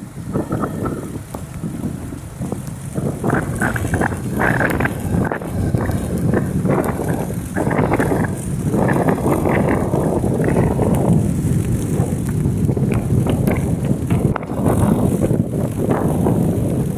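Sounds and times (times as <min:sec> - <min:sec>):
road and wind rumble: 0:00.0 - 0:16.9.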